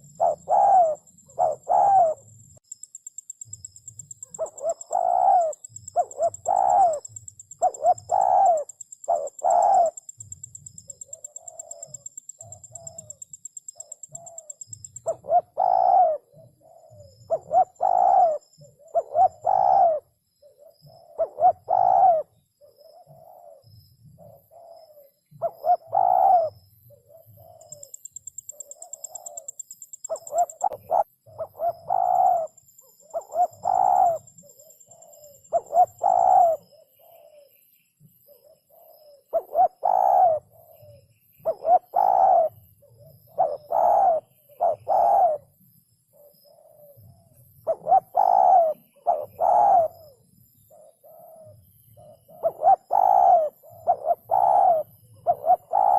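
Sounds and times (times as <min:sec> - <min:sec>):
dove cooing: 0:00.0 - 0:02.4, 0:03.4 - 0:37.6, 0:38.2 - 0:55.9.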